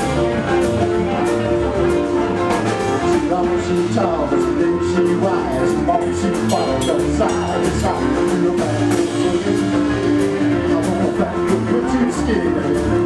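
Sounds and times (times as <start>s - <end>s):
boogie-woogie band playing: 0.0s - 13.0s.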